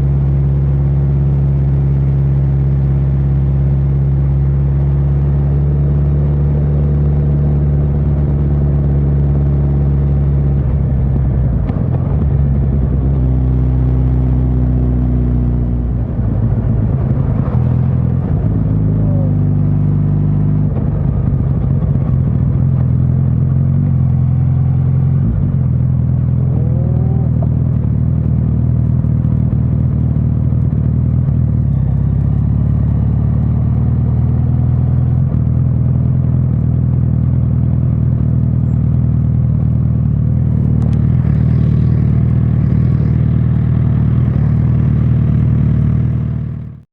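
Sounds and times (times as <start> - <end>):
motorcycle engine revving: 0.0 - 46.8.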